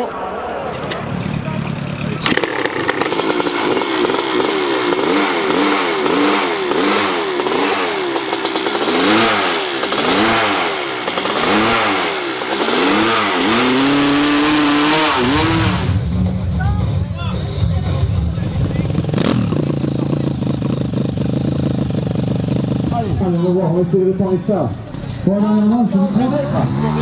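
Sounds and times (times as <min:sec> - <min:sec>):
dirt bike engine revving: 0:00.8 - 0:16.4, 0:17.9 - 0:23.9, 0:25.5 - 0:27.0.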